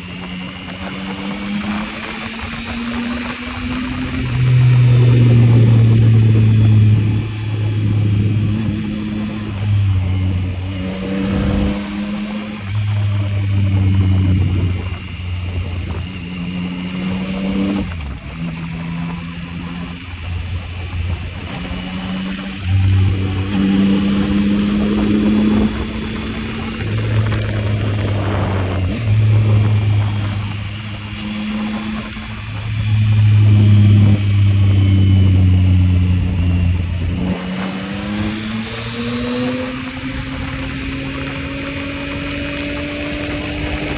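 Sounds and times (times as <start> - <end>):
motorcycle engine pulling: 0.0 - 43.9.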